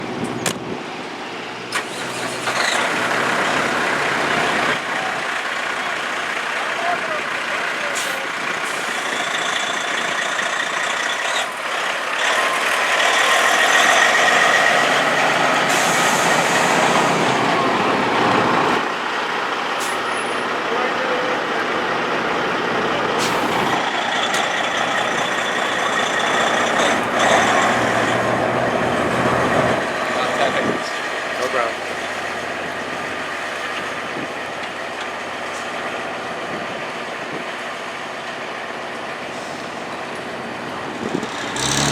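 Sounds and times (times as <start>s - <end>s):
diesel truck running: 0.0s - 41.9s.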